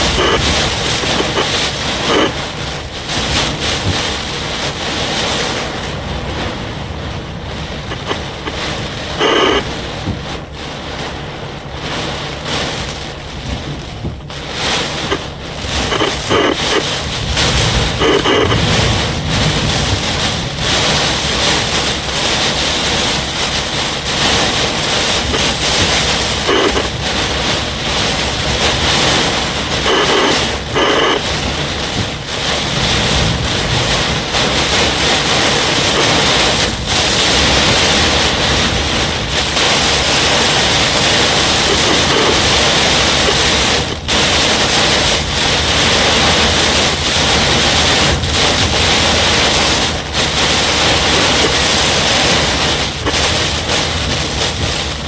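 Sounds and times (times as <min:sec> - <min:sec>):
heavy rain: 0:00.0 - 0:55.0
strong wind: 0:00.0 - 0:55.0.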